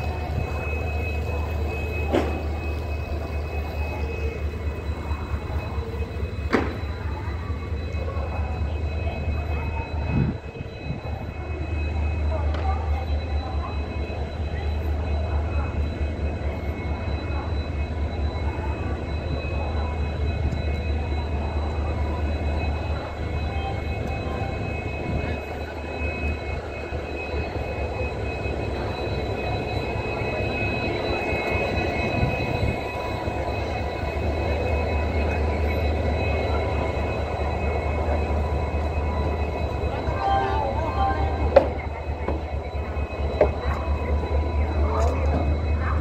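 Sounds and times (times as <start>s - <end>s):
train coaches rumbling past: 0.0s - 46.0s.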